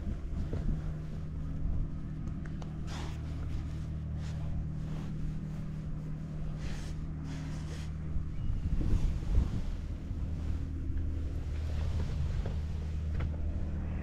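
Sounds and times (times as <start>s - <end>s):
engine running steadily: 0.0s - 14.0s
swishes of noise: 2.6s - 14.0s.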